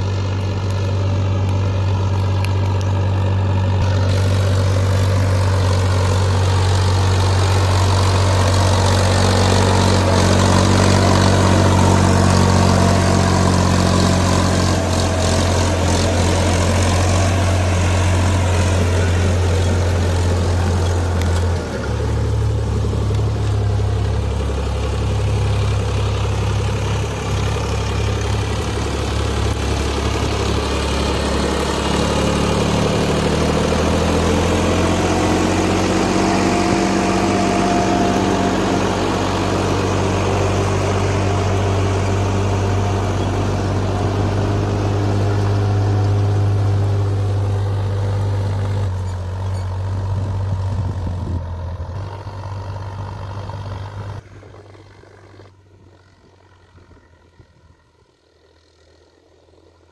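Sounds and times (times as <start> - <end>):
distant engine: 0.0 - 59.9
tractor diesel engine under load: 0.0 - 59.9.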